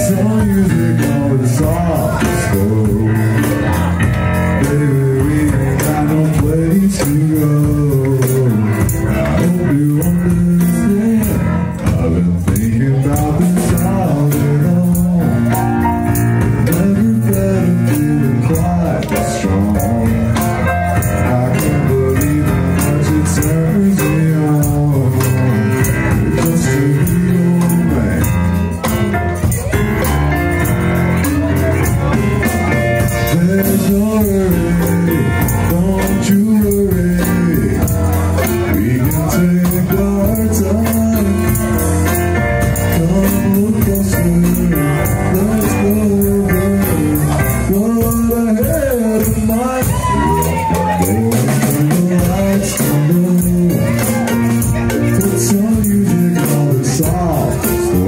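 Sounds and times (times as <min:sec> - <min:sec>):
drum kit and cymbals: 0:00.0 - 0:58.0
live band playing: 0:00.0 - 0:58.0
man singing: 0:00.0 - 0:58.0.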